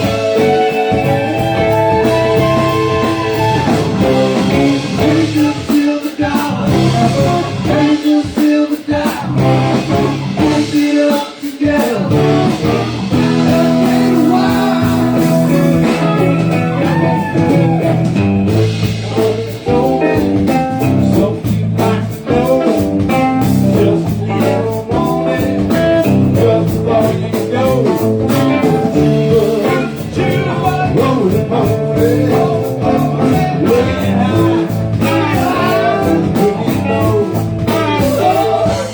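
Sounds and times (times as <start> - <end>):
lead guitar: 0.0 - 5.5, 9.3 - 10.7, 12.1 - 38.9
blues rock band playing: 0.0 - 38.9
steady drum beat: 0.0 - 38.9.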